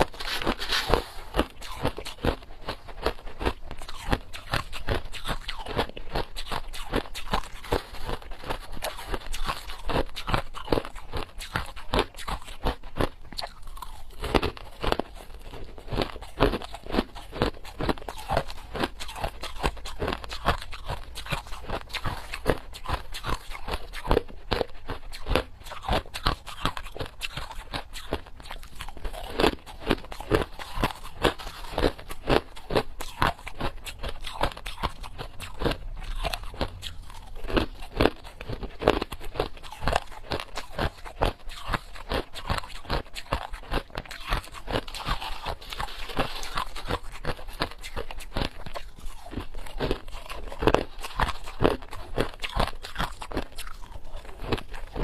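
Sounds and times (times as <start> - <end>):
person crunching ice: 0.0 - 55.0.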